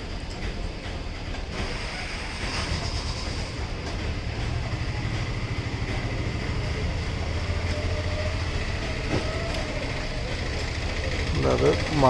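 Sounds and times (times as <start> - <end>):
low fluttering machine rumble: 0.0 - 12.0.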